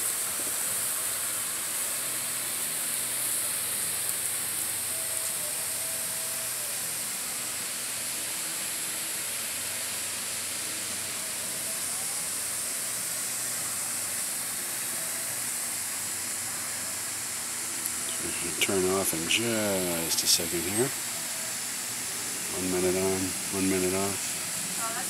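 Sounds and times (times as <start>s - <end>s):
water mist spraying from hose: 0.0s - 25.0s.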